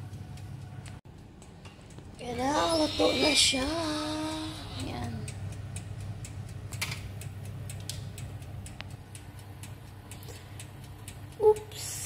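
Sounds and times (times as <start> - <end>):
fan oven humming: 0.0 - 12.0
light ticks and clicks: 0.0 - 12.0.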